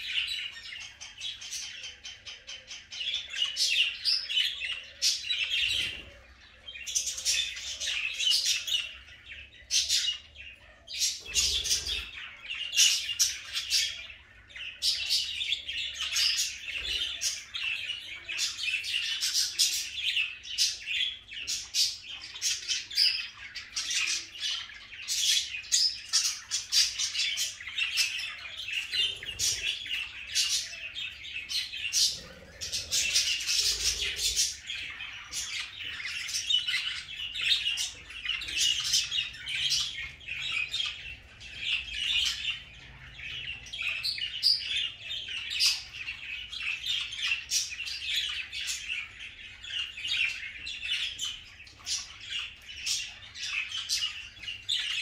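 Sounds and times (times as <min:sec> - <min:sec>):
budgerigars chattering and warbling: 0:00.0 - 0:55.0.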